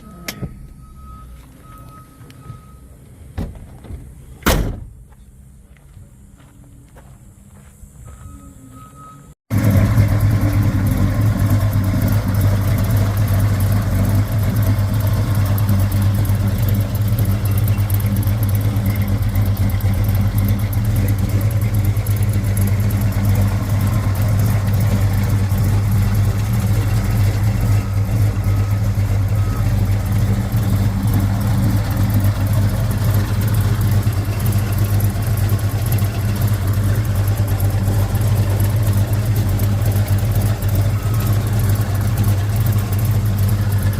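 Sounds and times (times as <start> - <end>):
car engine running steadily: 0.0 - 7.1, 7.8 - 43.9.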